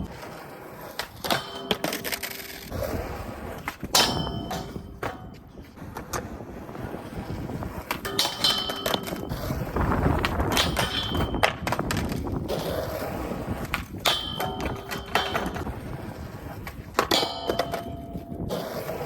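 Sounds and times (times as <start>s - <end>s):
skateboard clacking and landing: 0.0s - 19.0s.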